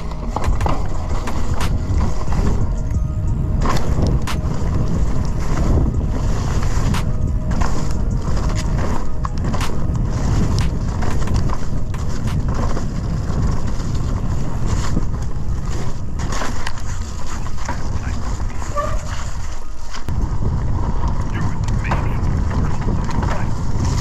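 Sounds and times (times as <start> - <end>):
bike clacks and rattles: 0.0 - 24.0
wind buffeting microphone: 0.0 - 24.0.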